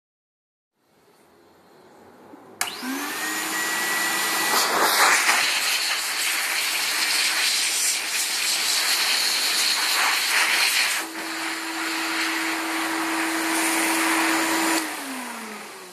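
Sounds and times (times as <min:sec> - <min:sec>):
dryer motor whine and air rush: 0:02.6 - 0:15.9.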